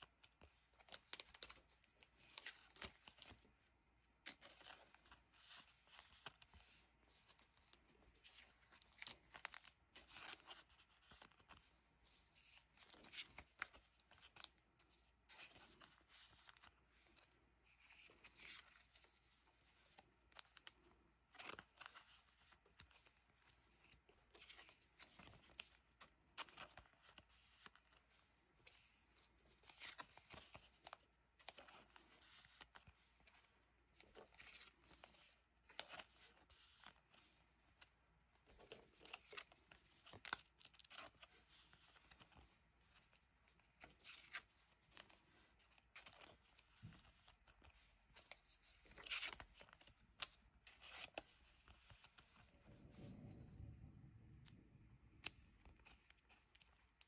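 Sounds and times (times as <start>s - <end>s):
cards rustling in plastic sleeves: 0.0s - 57.0s.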